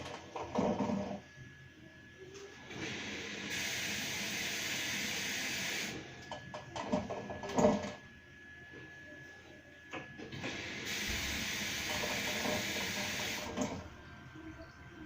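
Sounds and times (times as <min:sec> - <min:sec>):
washing machine running: 0:00.0 - 0:15.0.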